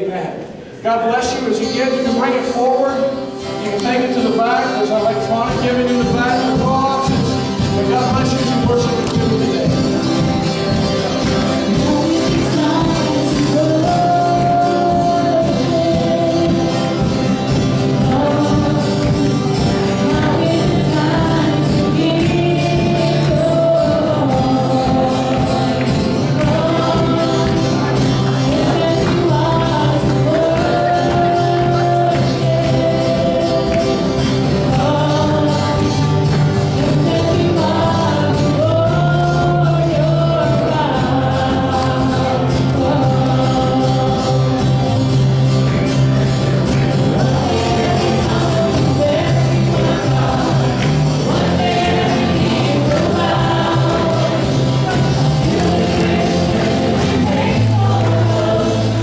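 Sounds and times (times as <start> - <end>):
gospel band playing and singing: 0.0 - 59.0.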